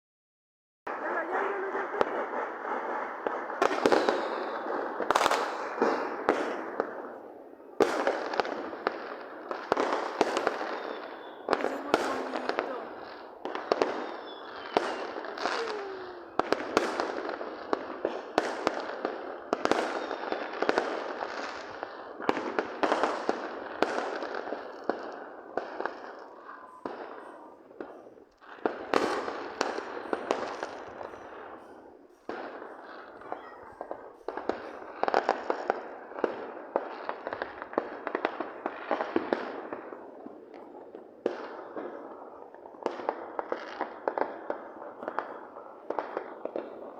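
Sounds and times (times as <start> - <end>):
fireworks bangs and crackles: 0.9 - 46.9.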